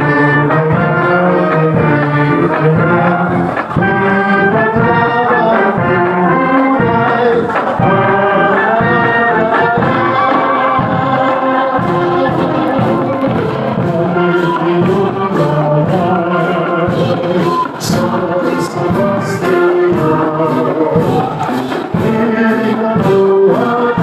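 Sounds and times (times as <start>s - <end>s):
brass band playing: 0.0s - 24.0s
sharp percussion hits: 0.0s - 24.0s.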